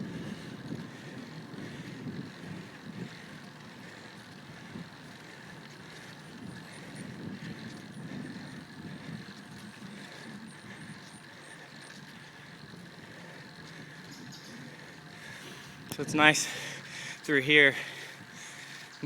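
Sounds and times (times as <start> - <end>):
wind and road noise rumble: 0.0 - 19.0.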